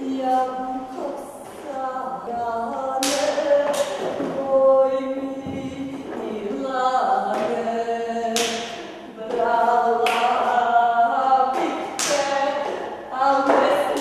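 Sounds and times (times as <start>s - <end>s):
voices singing held notes: 0.0s - 14.0s.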